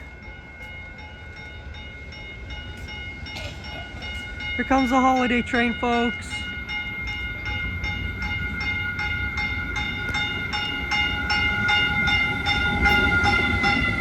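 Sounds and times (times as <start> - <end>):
railway bell ringing: 0.0 - 14.0
train rumbling: 0.0 - 14.0.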